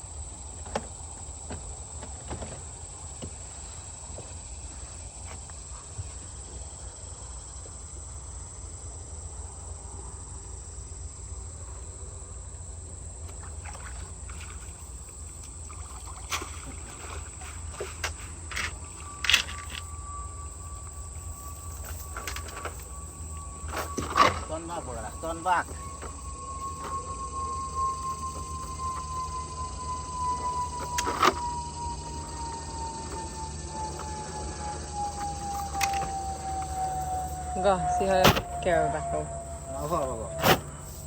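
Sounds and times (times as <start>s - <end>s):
insect chorus: 0.0s - 41.0s.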